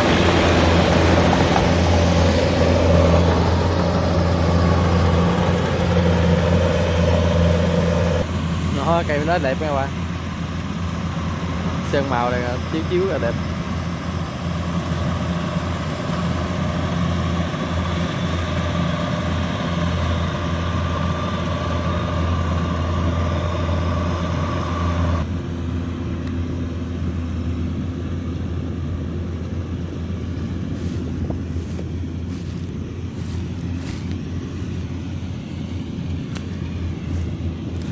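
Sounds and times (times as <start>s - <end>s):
diesel engine hum: 0.0s - 37.9s.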